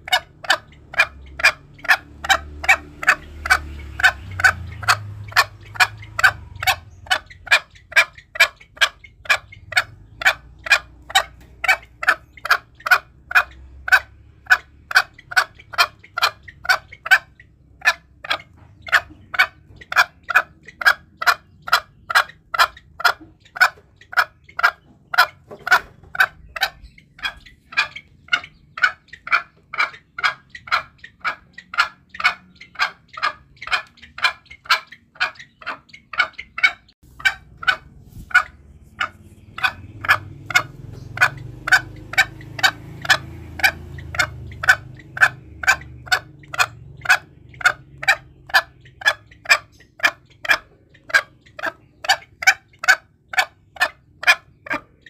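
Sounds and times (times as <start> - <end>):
junglefowl clucking: 0.0 - 55.0.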